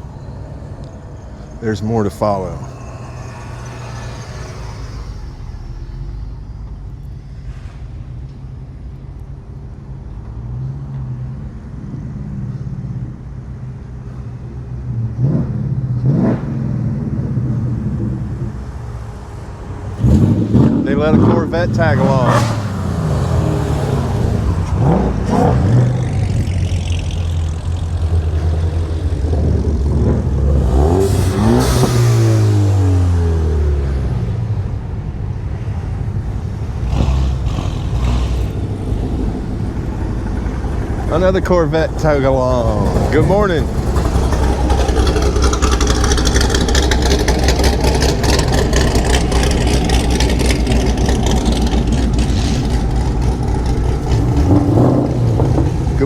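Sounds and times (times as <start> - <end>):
engine revving: 0.0 - 9.0, 14.8 - 56.0
cars driving past: 0.0 - 56.0.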